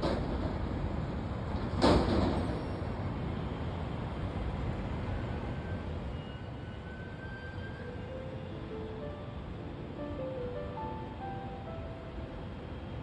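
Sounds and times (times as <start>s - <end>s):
city traffic hum: 0.0s - 13.0s
traffic rush: 0.0s - 13.0s.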